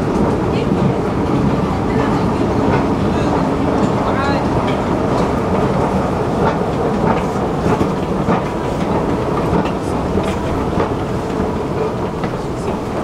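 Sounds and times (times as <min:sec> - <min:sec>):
metro station rumble: 0:00.0 - 0:13.0.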